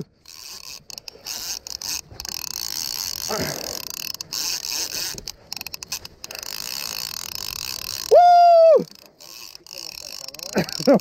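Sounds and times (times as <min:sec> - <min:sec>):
fishing reel cranking: 0:00.0 - 0:11.0.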